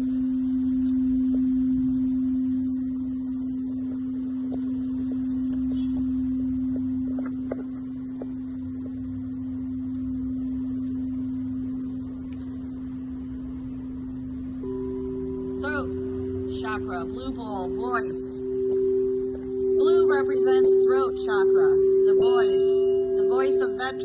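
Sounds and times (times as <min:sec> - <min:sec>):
low rumble: 0:00.0 - 0:22.4
singing bowl ringing: 0:00.0 - 0:24.0.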